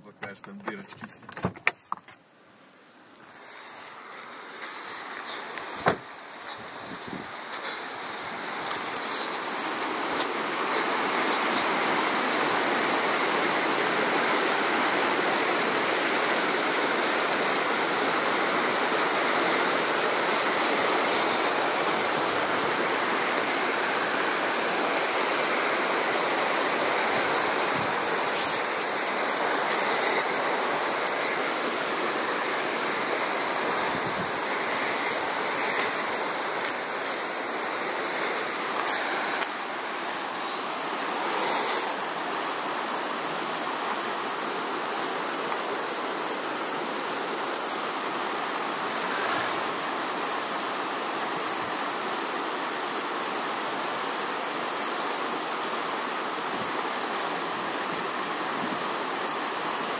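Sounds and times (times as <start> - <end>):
river rushing over stones: 2.9 - 59.9.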